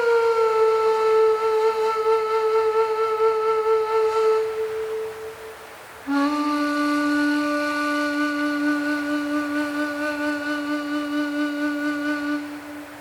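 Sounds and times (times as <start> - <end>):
flute-like wind instrument note: 0.0 - 13.0
soft breathy hiss: 0.0 - 13.0.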